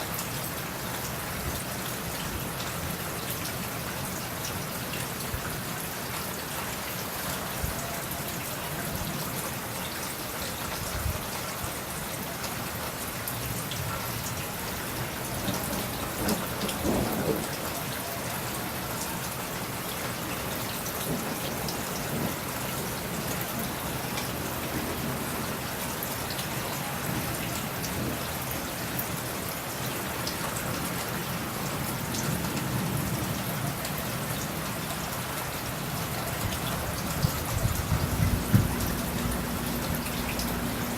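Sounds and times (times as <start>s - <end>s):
steady rain falling: 0.0s - 40.9s
raindrops ticking close: 0.1s - 40.9s.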